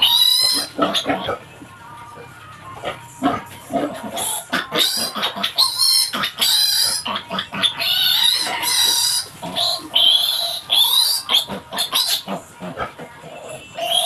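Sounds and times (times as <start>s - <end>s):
piglet squealing: 0.0s - 1.4s, 2.9s - 14.0s.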